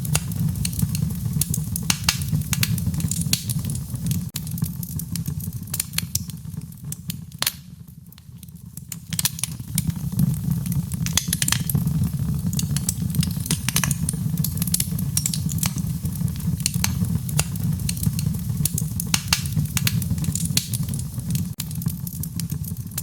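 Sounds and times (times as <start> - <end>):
sharp pops and snaps: 0.0 - 23.0
wood fire crackling: 0.0 - 23.0.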